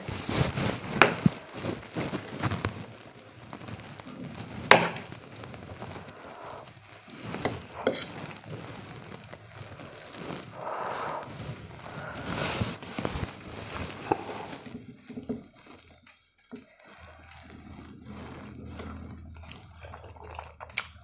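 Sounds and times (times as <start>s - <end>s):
fork stirring wet noodles: 4.2s - 21.0s.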